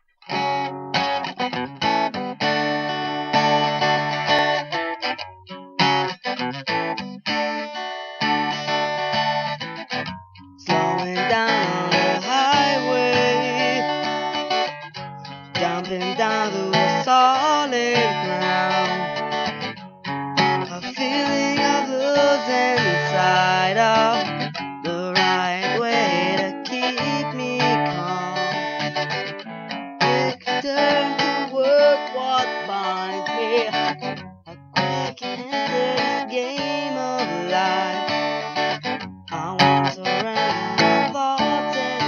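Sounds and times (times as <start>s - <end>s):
solo guitar playing: 0.0s - 42.0s.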